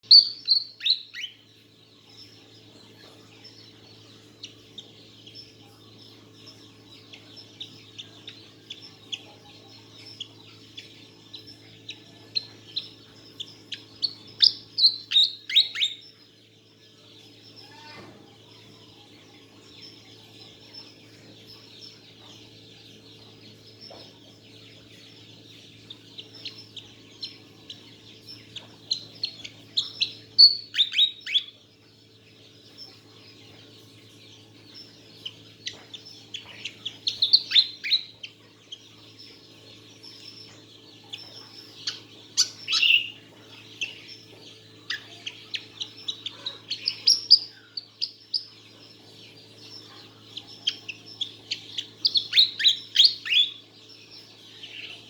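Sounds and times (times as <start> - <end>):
bird chirping: 0.0 - 55.0
steady low hum: 0.0 - 55.0.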